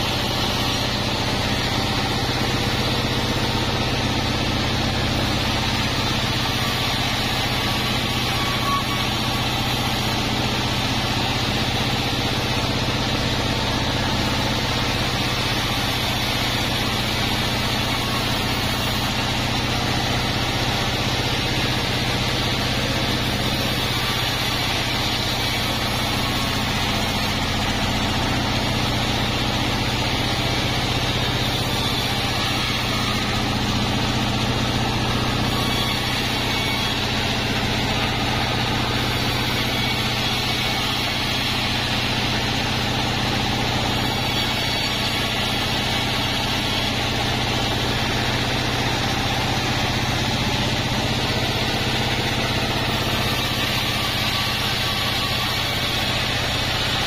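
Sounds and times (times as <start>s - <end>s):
band saw blade ripping timber: 0.0s - 57.0s
low hum of saw drive: 0.0s - 57.0s.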